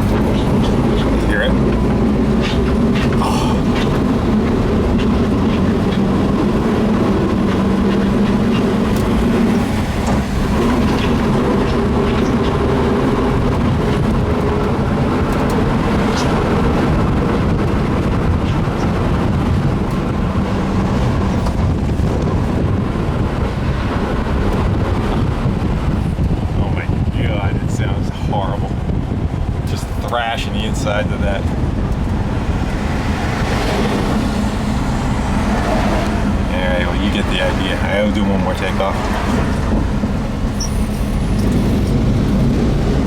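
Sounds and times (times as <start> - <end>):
gearbox grinding and scraping: 0.0 - 23.8, 31.2 - 43.0
van engine under load: 0.0 - 43.0.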